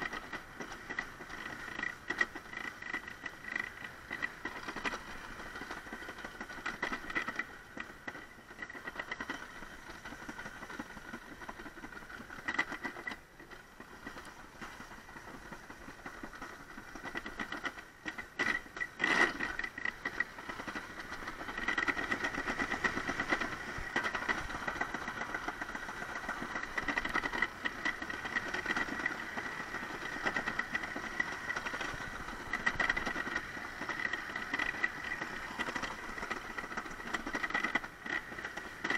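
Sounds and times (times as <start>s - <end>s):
sled rolling down steel trough: 0.0s - 38.9s.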